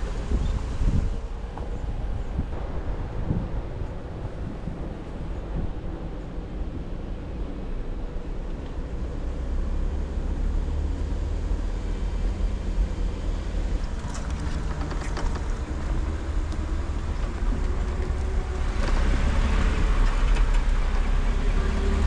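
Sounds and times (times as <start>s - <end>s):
engine and drivetrain rumble: 0.0s - 22.0s.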